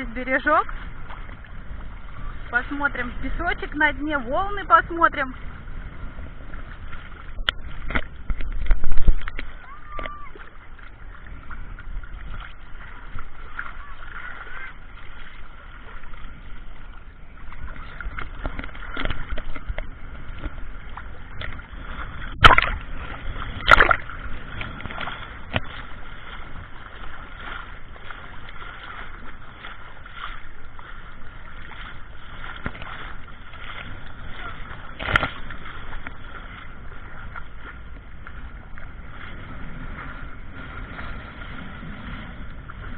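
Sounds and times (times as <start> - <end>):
muffled water sloshing and splashing: 0.0 - 42.9.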